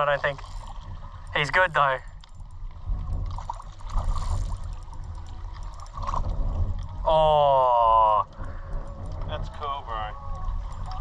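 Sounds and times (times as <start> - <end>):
faint water sounds: 0.0 - 11.0.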